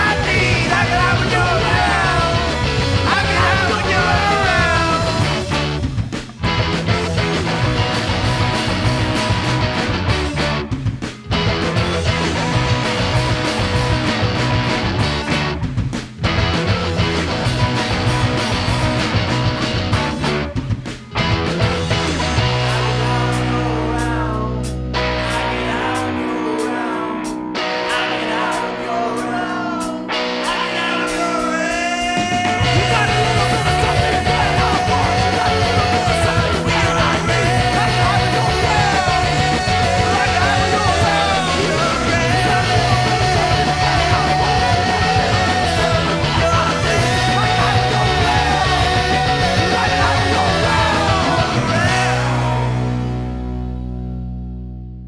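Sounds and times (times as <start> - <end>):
rock band with guitars: 0.0 - 55.0.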